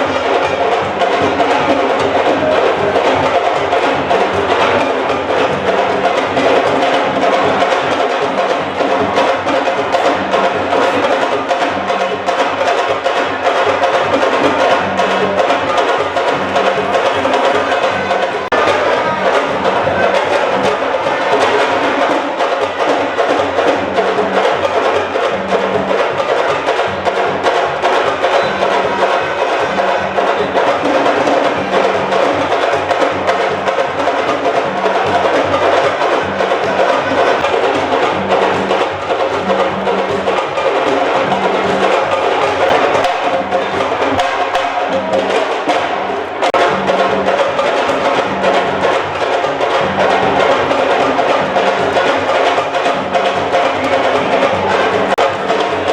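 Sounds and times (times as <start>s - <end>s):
drums playing a driving beat: 0.0s - 55.9s.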